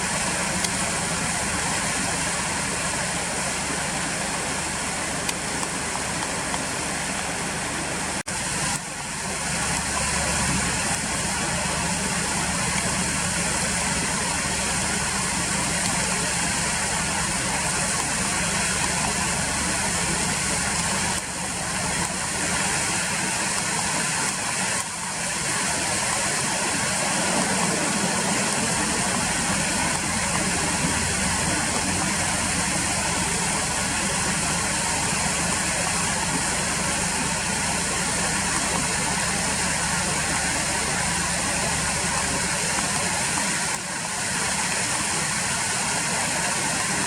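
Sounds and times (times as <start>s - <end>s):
flowing river water: 0.0s - 47.0s.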